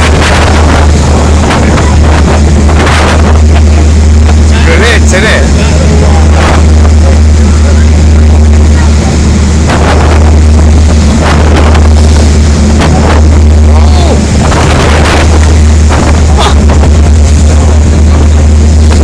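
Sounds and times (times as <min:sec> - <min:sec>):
boat engine droning: 0:00.0 - 0:19.0
water and wind rushing: 0:00.0 - 0:19.0
waves breaking against hull: 0:00.0 - 0:19.0.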